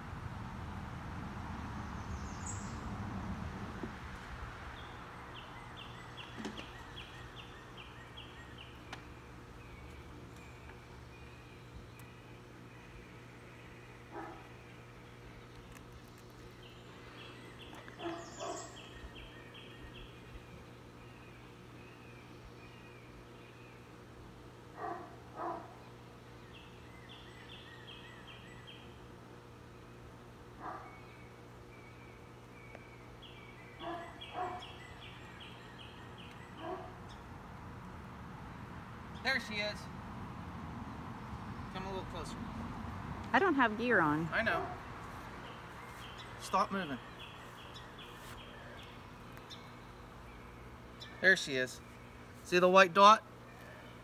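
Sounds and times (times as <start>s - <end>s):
faint steady hum: 0.0s - 54.0s
outdoor background noise: 0.0s - 54.0s
birds singing: 1.8s - 4.0s, 4.6s - 54.0s.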